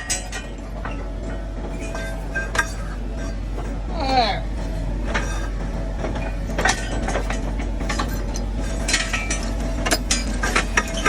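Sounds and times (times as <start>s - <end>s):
metal clinks and knocks: 0.0s - 11.0s
skid steer engine running: 0.0s - 11.0s.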